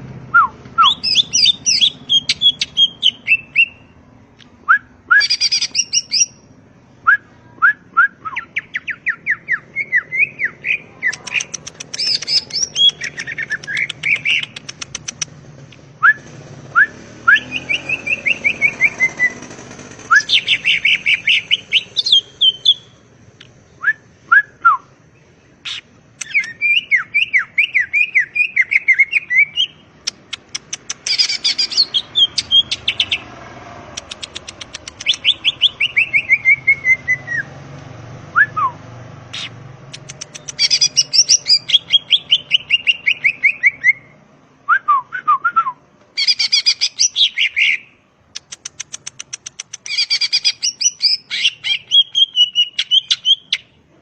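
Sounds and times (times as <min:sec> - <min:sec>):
bird singing varied song: 0:00.4 - 0:15.4, 0:16.0 - 0:33.4, 0:34.0 - 0:37.6, 0:38.4 - 0:44.2, 0:46.2 - 0:53.8.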